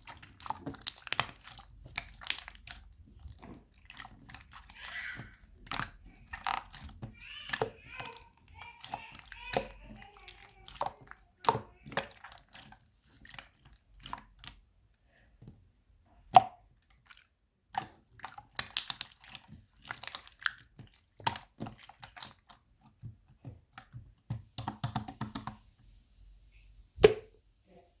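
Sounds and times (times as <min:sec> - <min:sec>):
jelly-like material squishing: 0:00.0 - 0:25.8.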